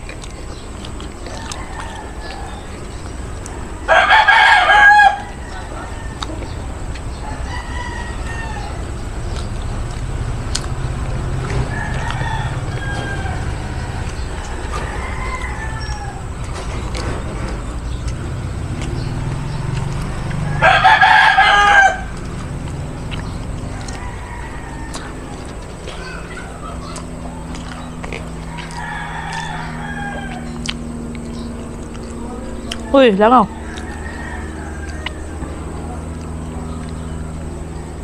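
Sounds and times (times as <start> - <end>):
soft bird calls: 0.0 - 20.7, 21.4 - 38.0
low background hum: 0.0 - 38.0
rooster crowing: 0.2 - 38.0.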